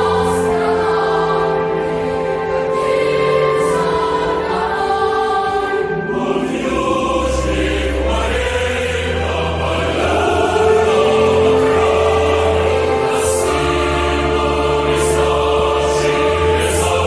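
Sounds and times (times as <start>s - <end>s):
choir singing slow chords: 0.0s - 17.0s.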